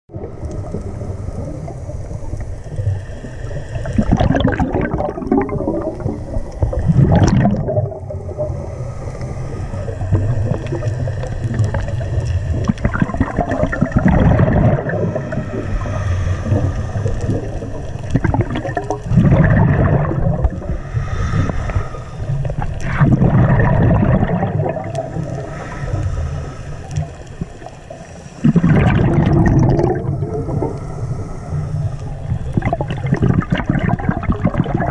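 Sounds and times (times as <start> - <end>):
gurgling exhaled bubbles: 0.1 - 34.9
low underwater rumble: 0.1 - 34.9.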